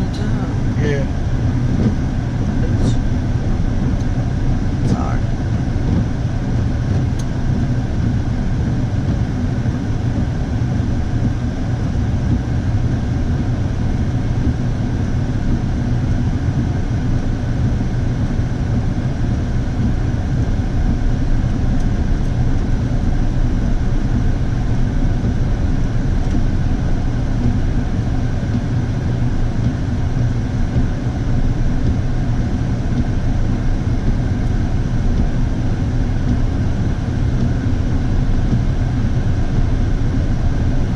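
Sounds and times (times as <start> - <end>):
road noise: 0.0 - 40.9
vehicle engine drone: 0.0 - 40.9.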